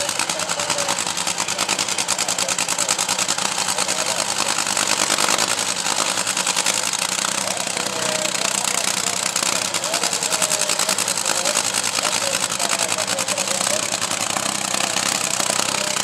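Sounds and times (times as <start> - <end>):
dragster engine idling: 0.0 - 16.0.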